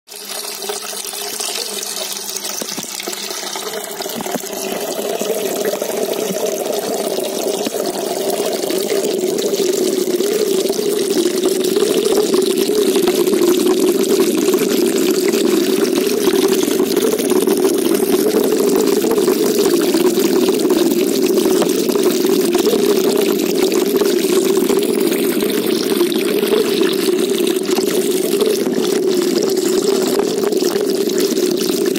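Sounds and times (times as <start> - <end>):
pouring water of a pond: 0.1 - 31.9.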